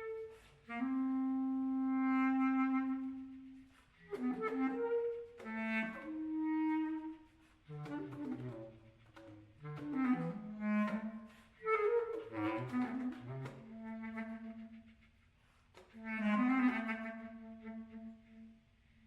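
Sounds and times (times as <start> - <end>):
clarinet playing art music: 0.0 - 19.0.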